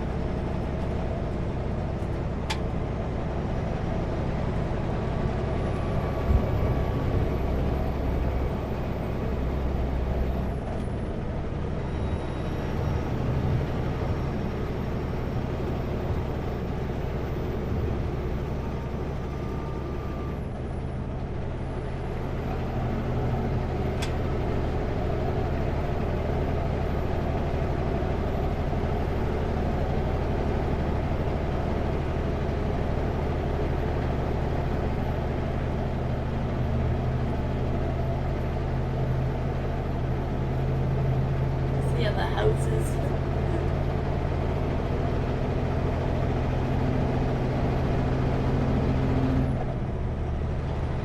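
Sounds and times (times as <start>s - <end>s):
road noise: 0.0s - 51.0s
truck diesel engine droning: 0.0s - 51.0s.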